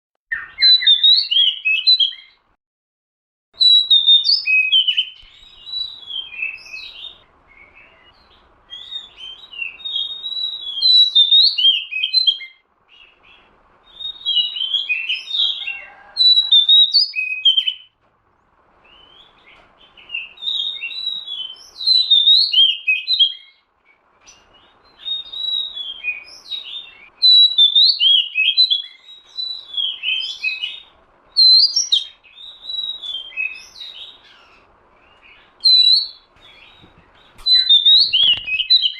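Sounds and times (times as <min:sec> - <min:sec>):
bird singing whistled notes: 0:00.3 - 0:02.4, 0:03.6 - 0:18.0, 0:18.8 - 0:38.9.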